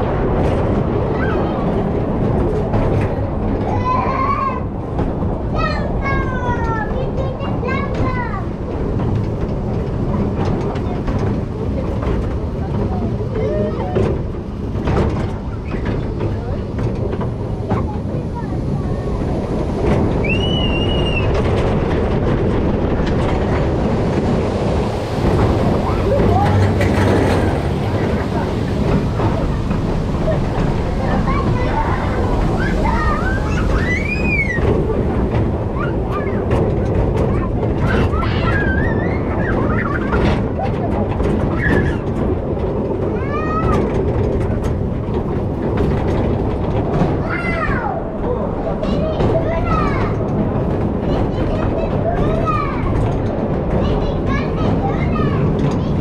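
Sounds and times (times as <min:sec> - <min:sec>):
train rumbling on track: 0:00.0 - 0:56.0
wheels clattering clicks: 0:00.0 - 0:56.0.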